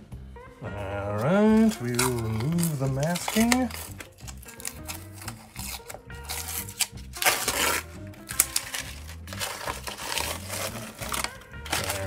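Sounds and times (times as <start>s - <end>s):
background music with low beat: 0.0s - 12.0s
masking tape peeling and tearing: 1.6s - 12.0s
tape crumpled in hand: 1.6s - 12.0s.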